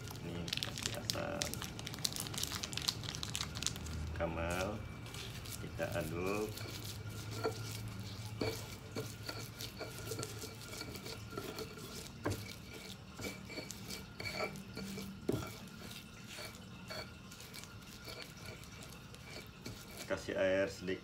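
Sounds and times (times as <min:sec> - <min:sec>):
stone pestle scraping in mortar: 0:04.2 - 0:21.0.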